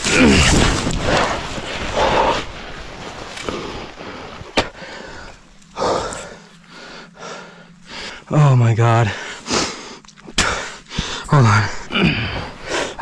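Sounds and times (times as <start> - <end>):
heavy breathing: 1.2 - 8.3, 9.1 - 13.0.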